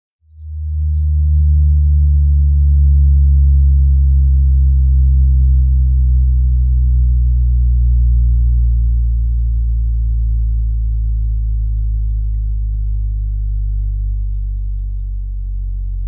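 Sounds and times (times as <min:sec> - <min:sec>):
deep bass drone: 0:00.0 - 0:16.0.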